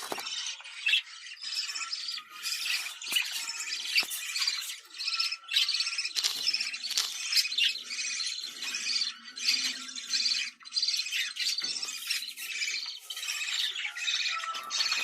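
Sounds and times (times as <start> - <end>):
budgerigars warbling and chattering: 0.0 - 15.0.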